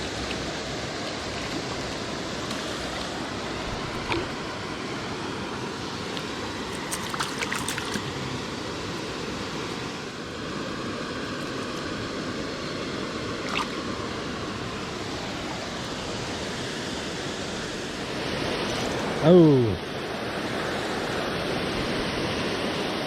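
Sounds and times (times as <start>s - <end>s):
stream water rushing over falls: 0.0s - 23.0s.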